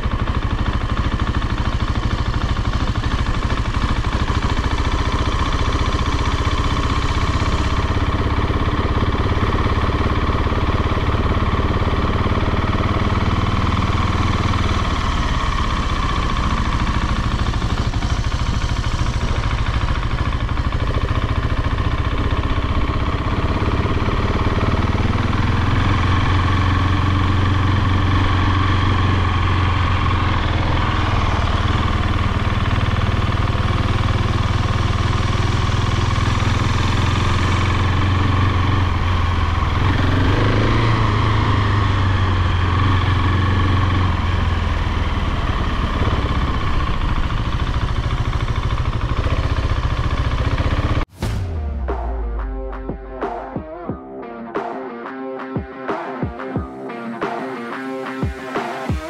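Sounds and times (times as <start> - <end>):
motorcycle engine at low revs: 0.0 - 54.0.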